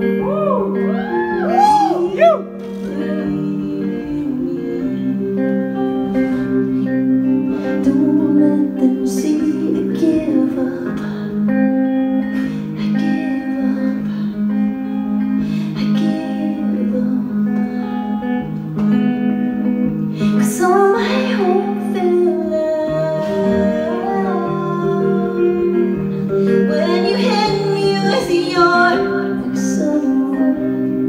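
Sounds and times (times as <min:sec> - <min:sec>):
person singing: 0:00.0 - 0:18.6, 0:20.1 - 0:31.0
clean electric guitar: 0:00.0 - 0:31.0.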